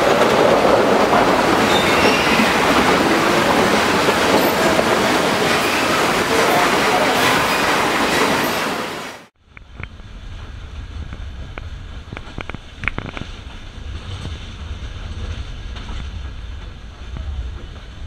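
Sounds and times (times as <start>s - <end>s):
low train rumble: 0.0s - 18.0s.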